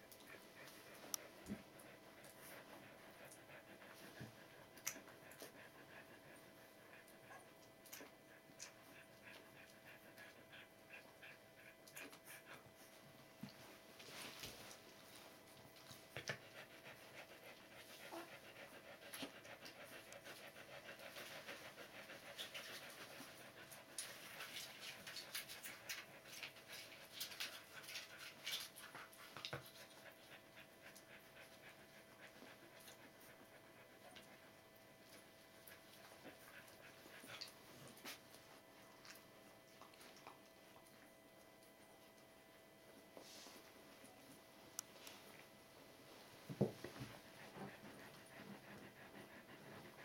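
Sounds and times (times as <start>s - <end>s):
dog panting: 0.0s - 44.3s, 46.1s - 50.0s.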